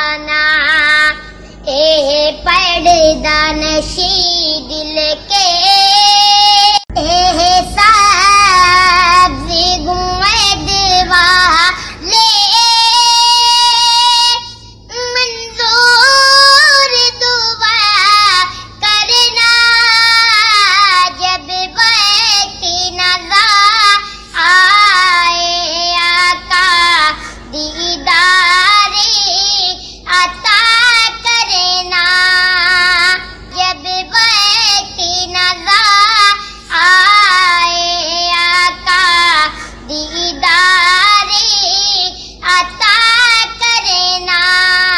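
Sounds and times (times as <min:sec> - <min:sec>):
boy singing devotional song: 0:00.0 - 0:44.9.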